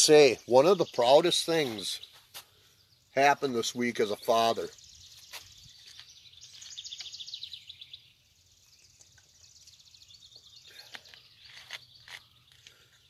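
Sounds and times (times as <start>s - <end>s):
faint high bird calls: 0.0s - 13.0s.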